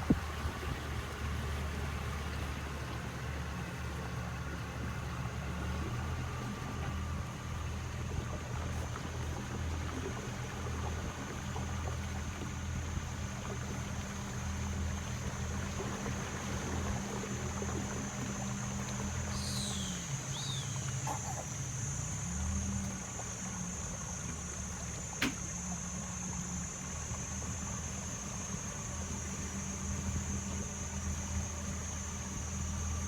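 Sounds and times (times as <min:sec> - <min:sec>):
boat motor droning: 0:00.0 - 0:33.0.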